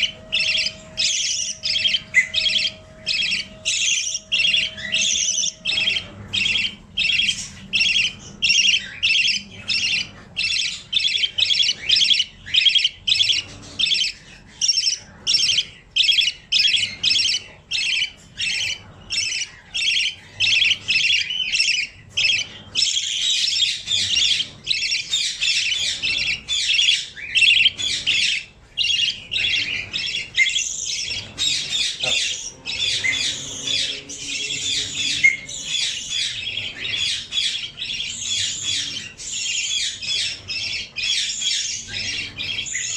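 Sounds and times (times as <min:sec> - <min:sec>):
budgie squawking: 0:00.0 - 0:42.9.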